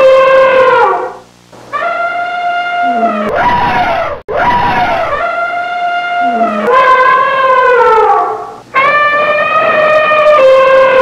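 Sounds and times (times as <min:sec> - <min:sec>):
elephant trumpeting: 0:00.0 - 0:11.0.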